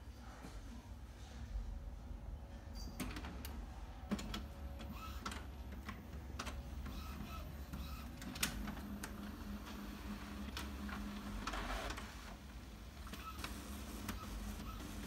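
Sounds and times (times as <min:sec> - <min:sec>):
printer clicking and whirring: 0:02.9 - 0:15.0.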